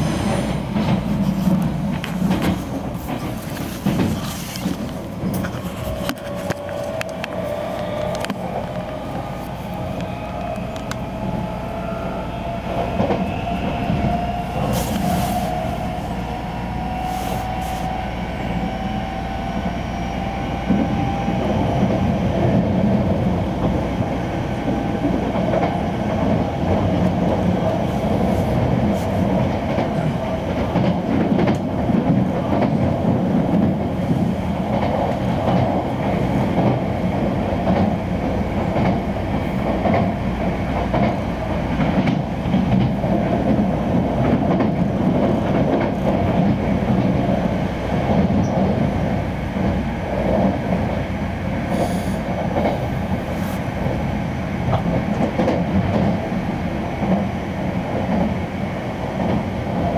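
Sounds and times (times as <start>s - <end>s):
rail joint clicks: 0.0s - 59.9s
train whine: 0.0s - 59.9s
wheels rumbling on rail: 0.0s - 59.9s.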